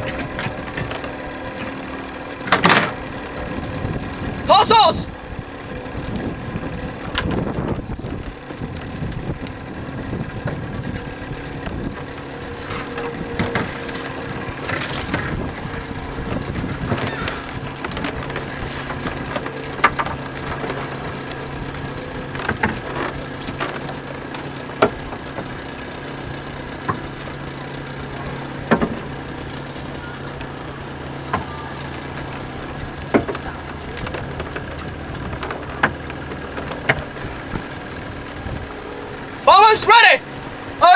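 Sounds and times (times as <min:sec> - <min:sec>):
motorboat engine running: 0:00.0 - 0:40.9
oars knocking against boat: 0:05.2 - 0:39.5.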